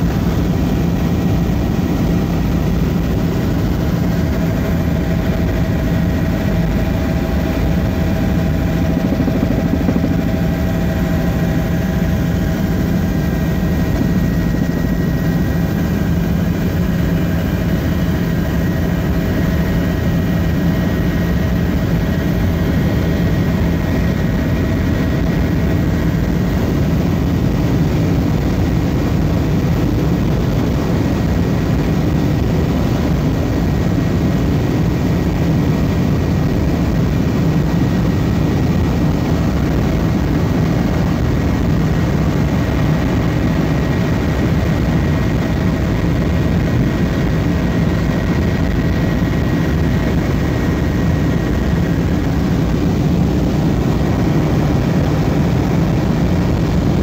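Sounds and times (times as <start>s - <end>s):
faint steady whine: 0.0s - 57.0s
helicopter rotor and engine drone: 0.0s - 57.0s.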